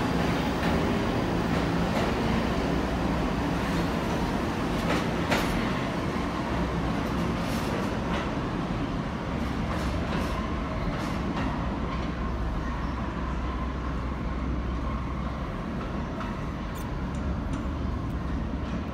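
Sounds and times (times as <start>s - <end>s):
subway train rumble: 0.0s - 18.9s.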